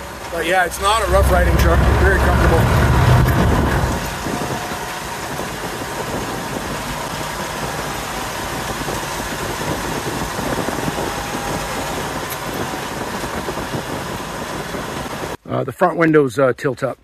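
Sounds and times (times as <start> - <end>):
truck engine running: 0.0 - 15.4.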